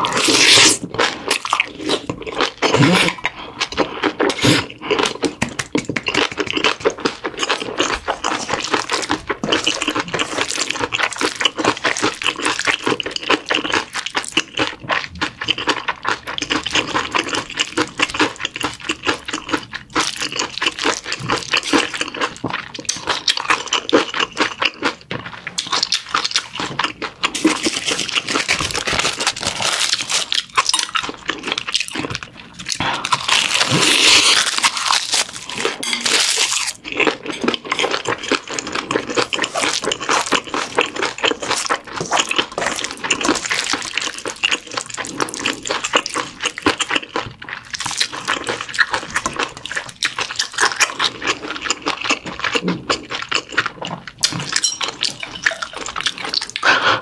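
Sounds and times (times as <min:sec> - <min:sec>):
close chewing with wet clicks: 0:00.9 - 0:29.3, 0:36.7 - 0:57.0.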